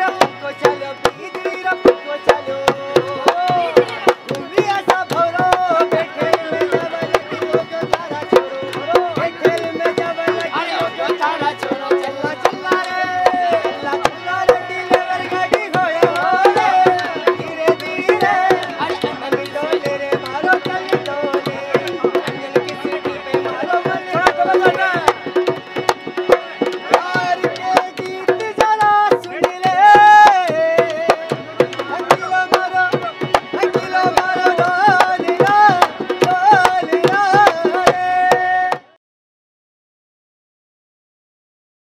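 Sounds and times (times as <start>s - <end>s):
hand drum beating: 0.0s - 38.9s
man singing folk melody: 0.0s - 39.0s.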